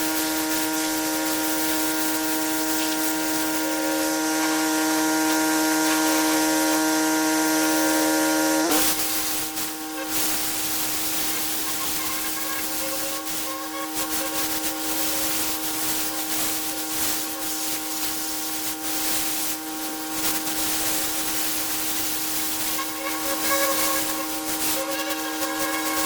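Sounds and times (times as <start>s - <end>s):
high-pressure water spray hiss: 0.0s - 26.0s
pressure washer whine: 0.0s - 26.0s.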